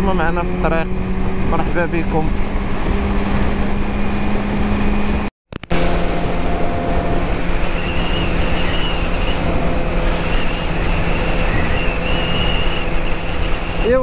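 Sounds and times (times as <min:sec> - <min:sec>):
motorcycle engine hum: 0:00.0 - 0:14.0
wind rush on microphone: 0:00.0 - 0:14.0.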